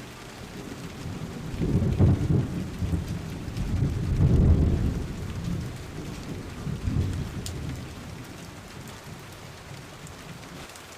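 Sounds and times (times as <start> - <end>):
rain falling: 0.0 - 10.9
rolling thunder: 0.4 - 10.4.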